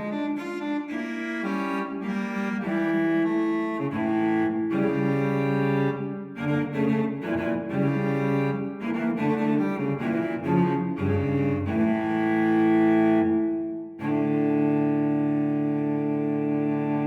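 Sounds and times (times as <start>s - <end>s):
solo cello music: 0.0s - 17.0s.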